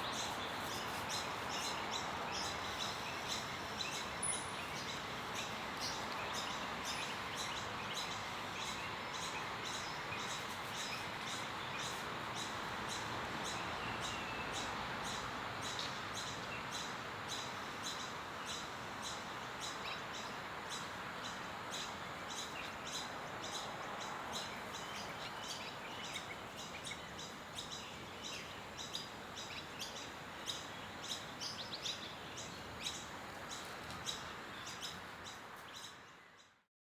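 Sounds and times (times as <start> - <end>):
steady outdoor hiss: 0.0 - 36.7.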